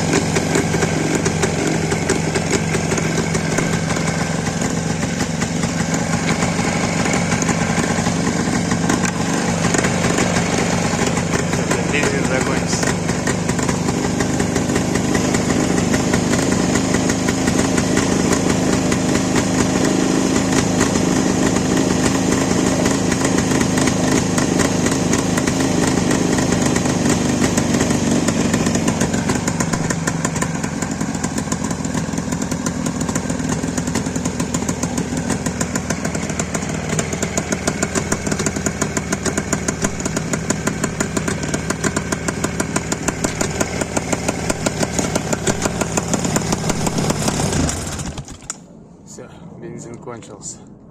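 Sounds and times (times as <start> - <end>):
motorcycle engine running: 0.0 - 48.8.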